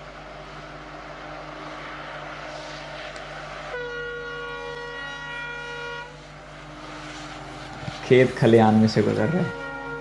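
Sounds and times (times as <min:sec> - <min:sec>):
low steady hum: 0:00.0 - 0:10.0
locomotive air horn blast: 0:01.3 - 0:10.0.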